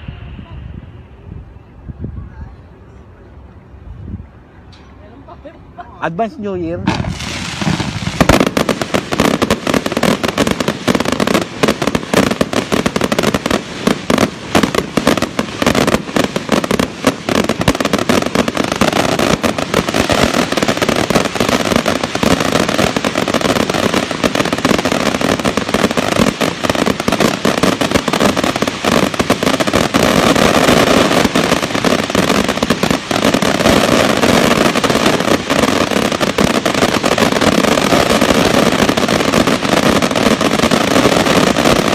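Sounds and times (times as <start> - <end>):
fireworks cracking and banging: 6.2 - 41.9.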